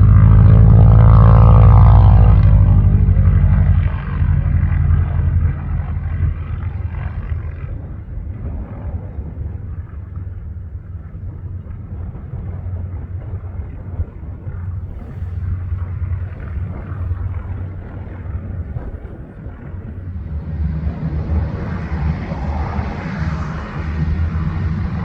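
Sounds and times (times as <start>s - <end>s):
radial aircraft engine rumbling: 0.0s - 25.0s.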